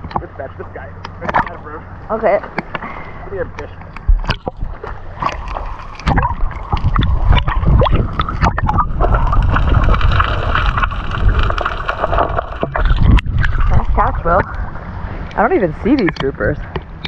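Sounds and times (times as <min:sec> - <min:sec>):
water splashes and knocks: 0:00.0 - 0:02.8, 0:03.5 - 0:14.6
water sloshing and gurgling: 0:00.0 - 0:17.0.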